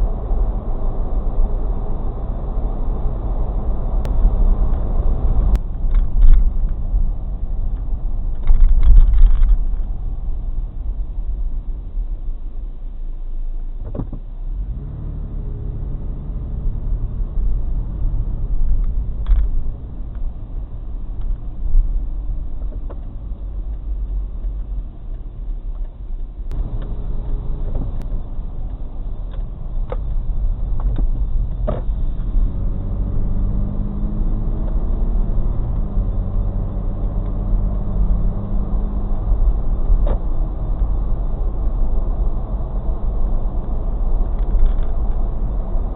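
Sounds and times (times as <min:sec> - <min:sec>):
car engine and road rumble: 0:00.0 - 0:45.9.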